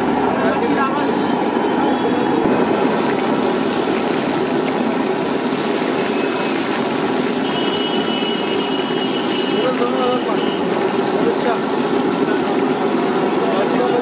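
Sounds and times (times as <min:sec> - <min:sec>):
street noise: 0:00.0 - 0:14.0
fish deep-frying in oil: 0:02.4 - 0:14.0.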